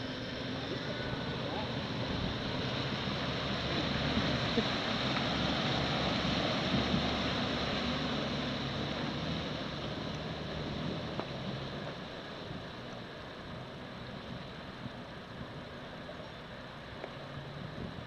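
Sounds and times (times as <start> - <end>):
car engine running low: 0.0 - 18.0
water rushing and splashing: 0.0 - 18.0.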